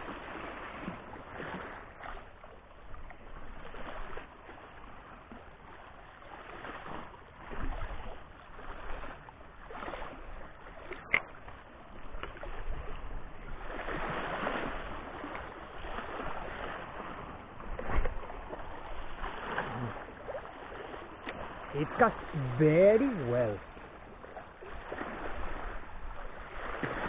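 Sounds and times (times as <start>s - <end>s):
water lapping against rocks: 0.0s - 27.0s.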